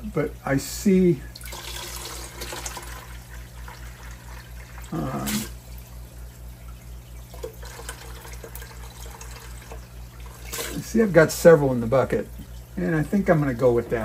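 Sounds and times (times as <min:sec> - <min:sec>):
steady low hum: 0:00.0 - 0:14.0
water trickling into a bucket: 0:00.9 - 0:14.0.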